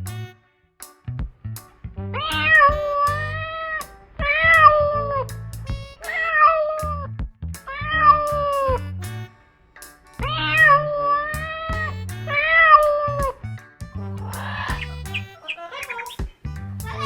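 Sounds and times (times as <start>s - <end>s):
background music with drum beat: 0.0s - 1.7s, 2.3s - 17.0s.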